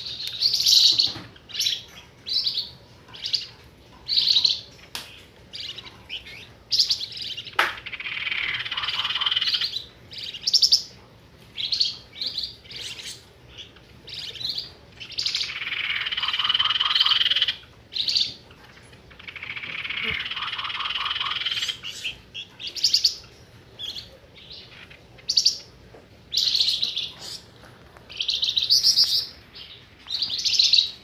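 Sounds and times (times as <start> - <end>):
buzzing rattling bird chatter: 0.0 - 11.0, 11.6 - 25.7
songbird chirping and whistling: 0.0 - 25.7, 26.3 - 27.5, 28.1 - 31.0.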